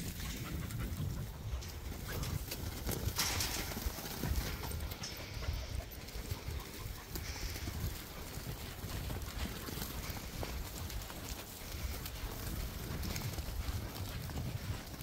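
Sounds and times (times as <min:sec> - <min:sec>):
hoof and paw steps on sand: 0:00.0 - 0:15.0.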